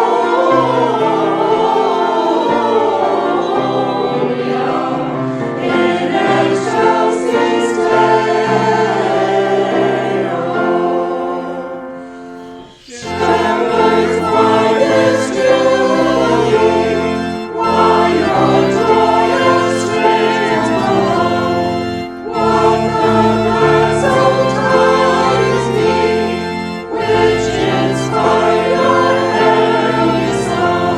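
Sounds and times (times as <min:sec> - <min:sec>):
choir singing: 0:00.0 - 0:30.9.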